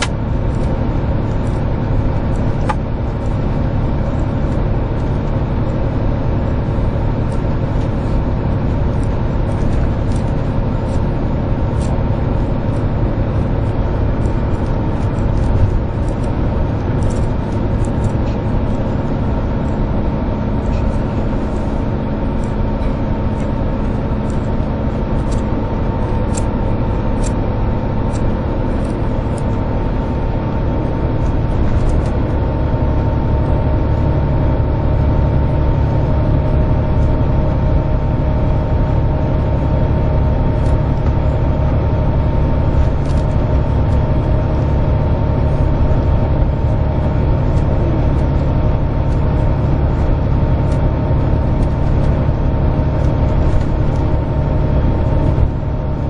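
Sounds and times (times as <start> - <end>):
coach diesel engine drone: 0.0 - 56.0
road noise: 0.0 - 56.0.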